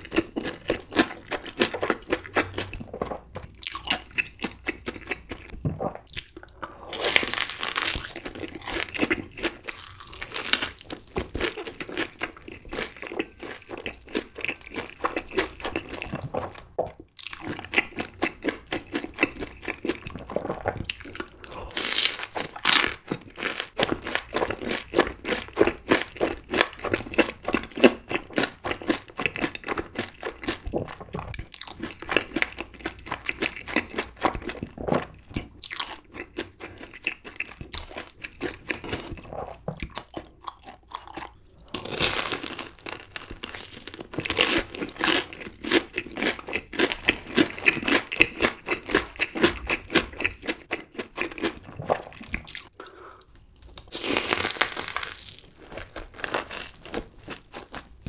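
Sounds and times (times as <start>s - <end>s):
crunchy chewing: 0.0s - 53.0s, 53.6s - 57.9s.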